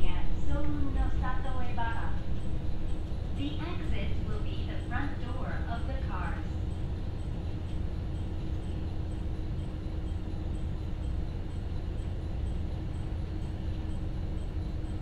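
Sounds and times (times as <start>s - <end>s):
faint steady hum: 0.0s - 15.0s
railcar engine rumbling: 0.0s - 15.0s.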